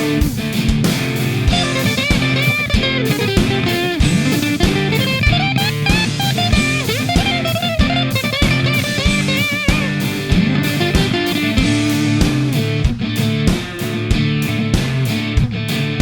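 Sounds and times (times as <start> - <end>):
bass guitar: 0.0 - 16.0
electric guitar lead line: 0.0 - 16.0
rhythm guitar: 0.0 - 16.0
steady drum beat: 0.0 - 16.0.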